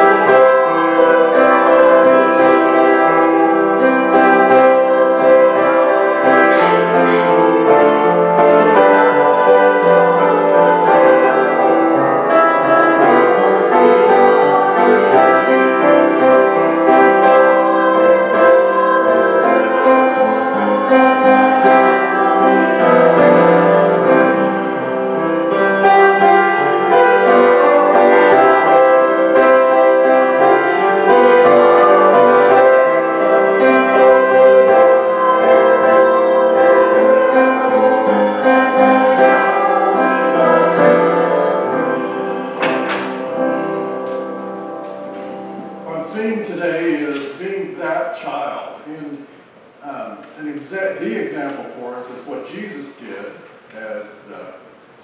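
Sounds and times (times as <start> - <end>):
hymn played on keyboard: 0.0 - 55.0.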